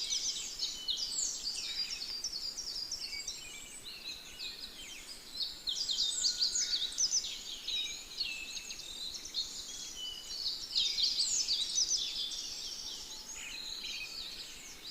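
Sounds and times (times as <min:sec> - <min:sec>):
flock of birds chirping: 0:00.0 - 0:14.9.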